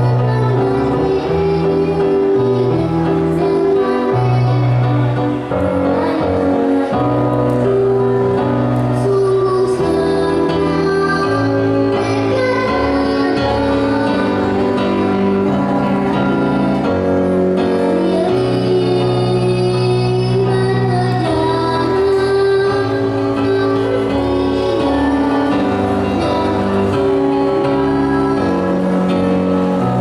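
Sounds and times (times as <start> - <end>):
girl singing: 0.0 - 30.0
instrumental accompaniment: 0.0 - 30.0.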